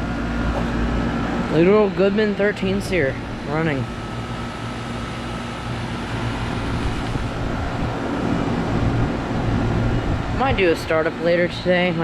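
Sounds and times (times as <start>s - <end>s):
compressor hum: 0.0s - 12.0s
condenser fan rushing: 0.0s - 12.0s.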